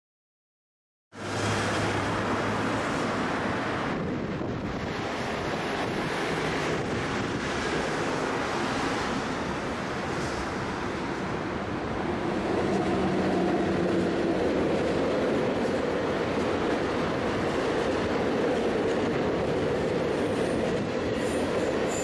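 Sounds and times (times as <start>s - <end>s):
train rushing rumble: 1.2s - 22.0s
locomotive humming: 1.6s - 22.0s.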